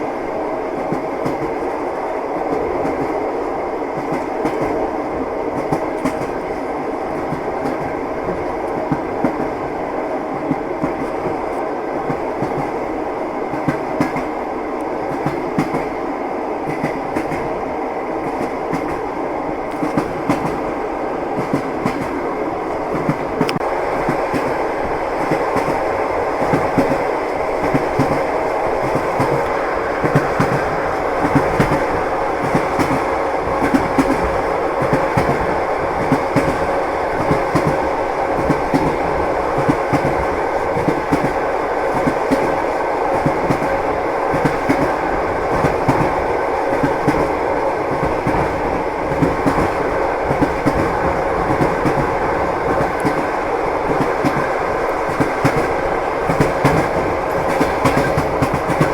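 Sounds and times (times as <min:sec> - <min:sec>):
train wheels clattering on rails: 0:00.0 - 0:58.9.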